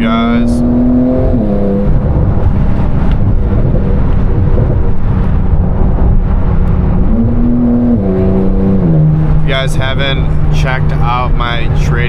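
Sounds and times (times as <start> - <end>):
car engine drone: 0.0 - 12.0
road and wind rumble: 0.0 - 12.0.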